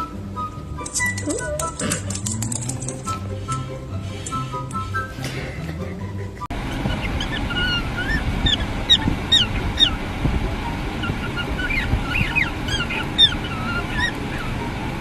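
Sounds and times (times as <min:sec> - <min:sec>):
birds calling: 0:00.0 - 0:15.0
steady background noise: 0:00.0 - 0:15.0.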